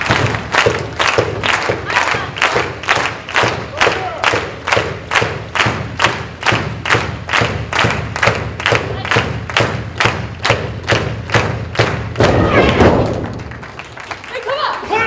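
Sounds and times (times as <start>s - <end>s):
audience clapping in rhythm: 0.0s - 15.0s.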